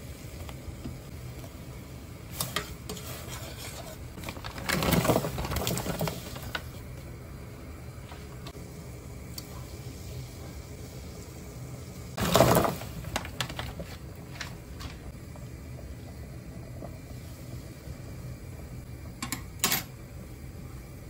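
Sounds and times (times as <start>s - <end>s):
water boiling in a pot: 0.0s - 21.0s.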